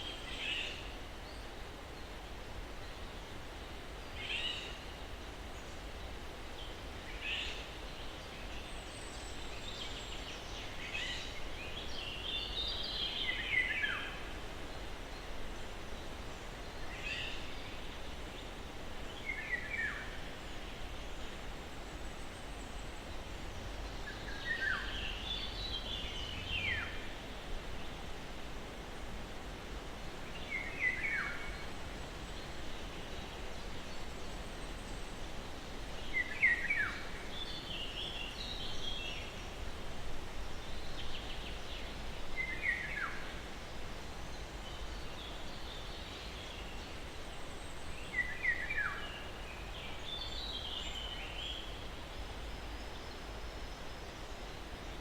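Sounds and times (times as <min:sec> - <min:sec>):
soft breeze rushing: 0:00.0 - 0:55.0.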